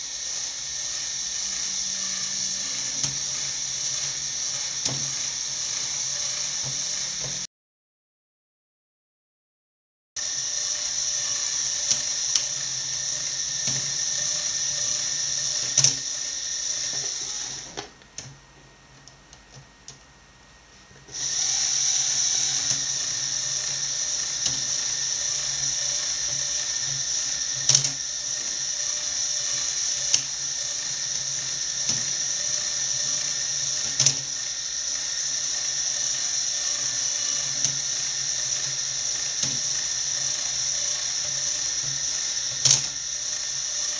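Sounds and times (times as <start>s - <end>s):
toy motor and gears whining: 0.0s - 7.5s, 10.2s - 18.0s, 21.0s - 43.9s.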